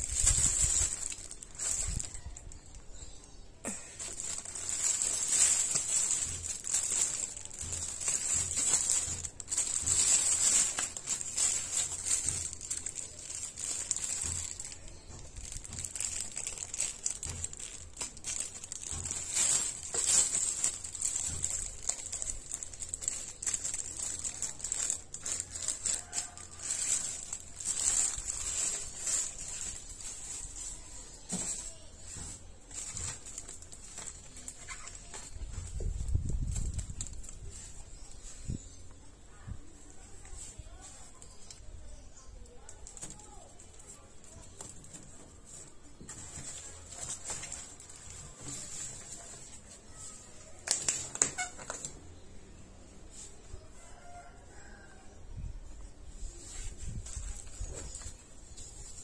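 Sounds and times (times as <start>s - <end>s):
plastic bag crinkling: 0.0s - 2.8s, 3.7s - 38.6s, 42.4s - 52.0s, 56.8s - 59.0s.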